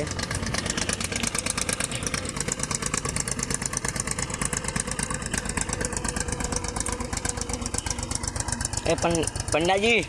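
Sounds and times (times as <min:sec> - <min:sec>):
tractor diesel engine clattering: 0:00.0 - 0:10.0.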